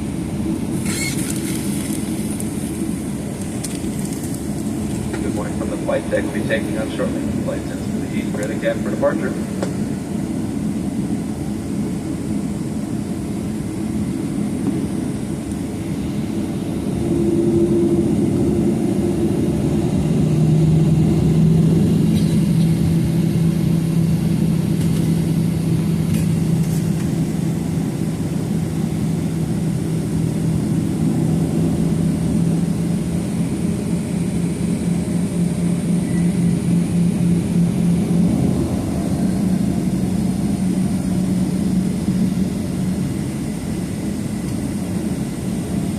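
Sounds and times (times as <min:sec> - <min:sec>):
jet engine hum in cabin: 0:00.0 - 0:45.9.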